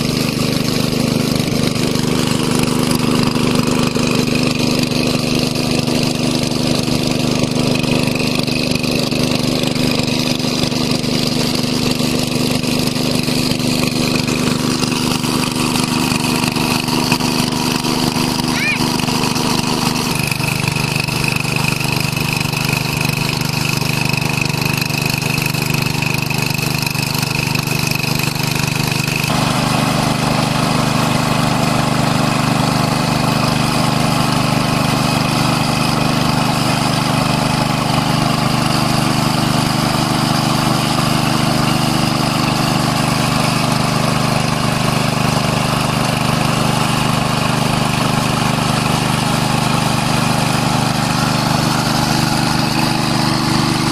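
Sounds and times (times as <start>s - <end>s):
petrol water pump engine running: 0.0s - 53.9s.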